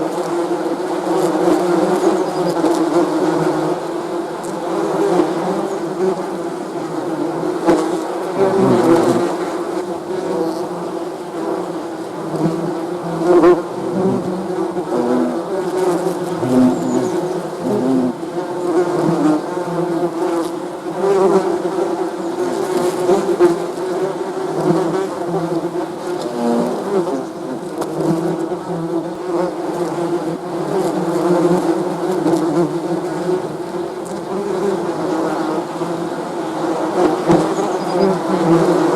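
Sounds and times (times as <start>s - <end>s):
single bee passing close: 0.1s - 38.9s
bees buzzing: 0.2s - 38.9s.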